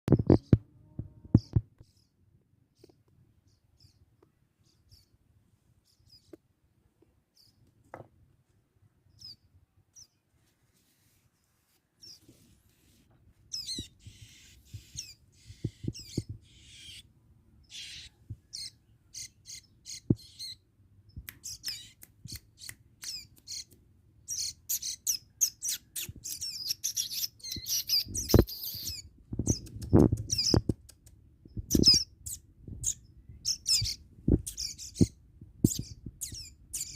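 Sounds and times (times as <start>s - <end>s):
small songbird chirping: 0.1s - 7.8s, 9.0s - 36.9s.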